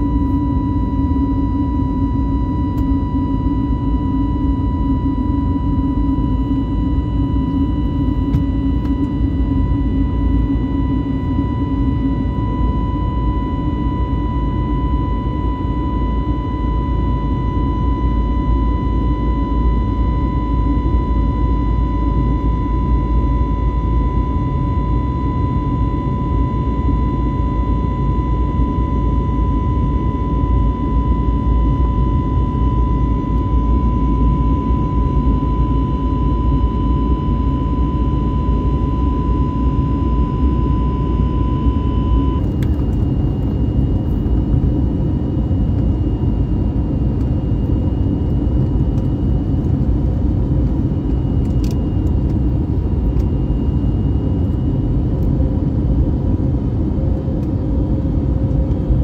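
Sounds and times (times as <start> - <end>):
high engine whine: 0.0 - 59.0
jet engine rumble in cabin: 0.0 - 59.0.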